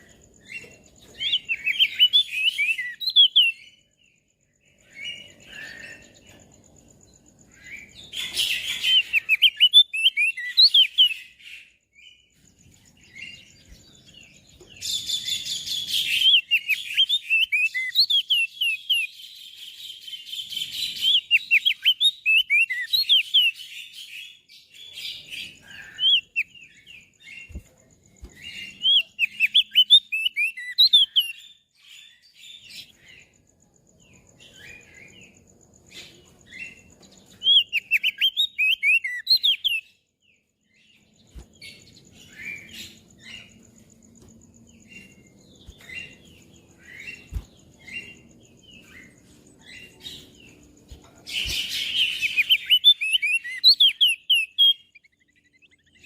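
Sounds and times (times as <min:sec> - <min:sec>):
bird singing high chirps: 0:00.0 - 0:56.0.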